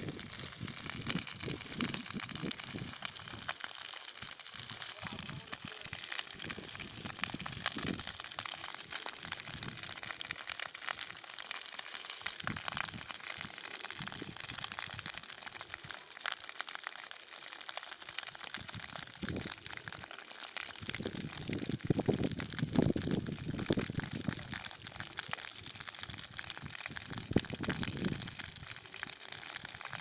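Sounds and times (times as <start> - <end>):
dry grass crackling as it burns: 0.0 - 30.0.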